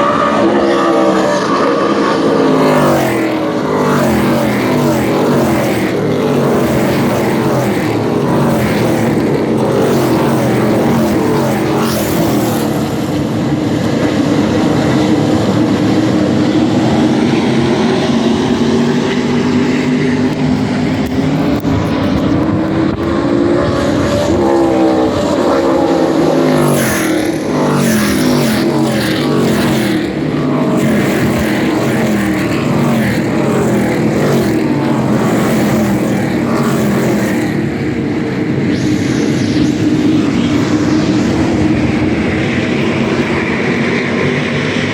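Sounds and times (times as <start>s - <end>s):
race trucks passing at speed: 0.0s - 44.9s.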